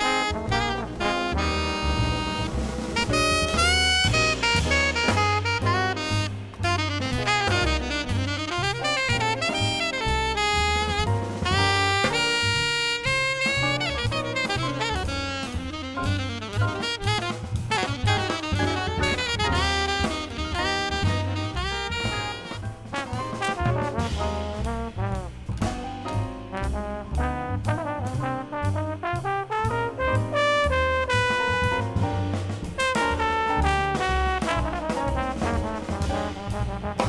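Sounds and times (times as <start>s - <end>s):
alto saxophone: 0.0s - 37.0s
bass: 0.0s - 37.0s
drum kit with cymbal strokes: 0.0s - 37.0s
trombone: 0.0s - 37.0s.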